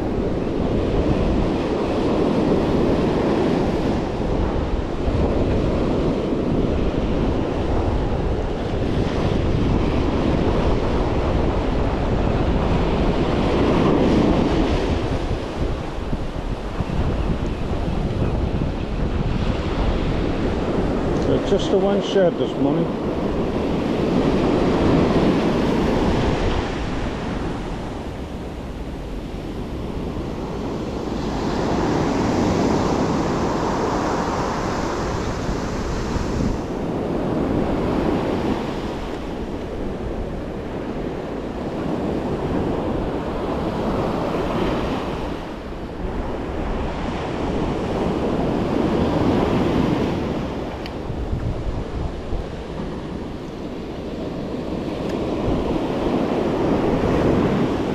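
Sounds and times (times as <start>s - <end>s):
ocean surf breaking on beach: 0.0s - 57.9s.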